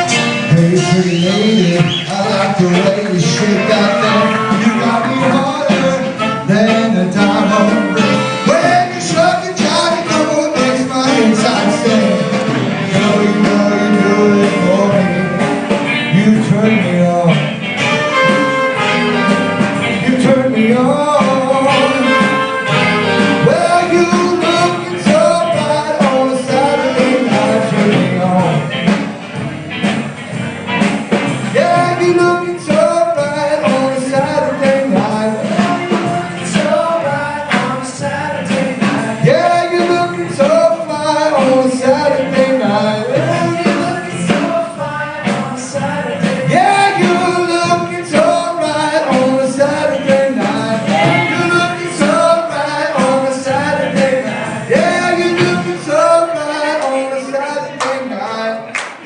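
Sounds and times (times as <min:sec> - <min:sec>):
soul love song with brass band: 0:00.0 - 0:59.0.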